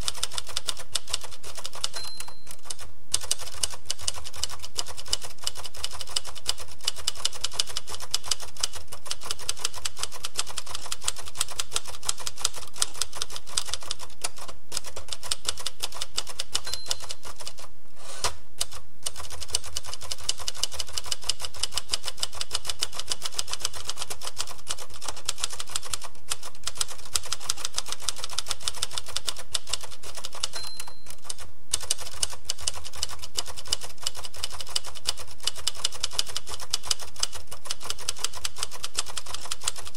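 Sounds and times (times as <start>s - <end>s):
typewriter keys typing: 0.0s - 39.9s.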